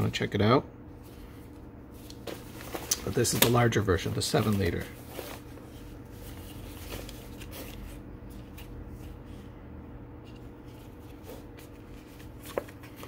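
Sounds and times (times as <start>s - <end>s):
steady low hum: 0.0s - 13.0s
paper booklet rustling: 1.1s - 9.5s, 10.2s - 13.0s.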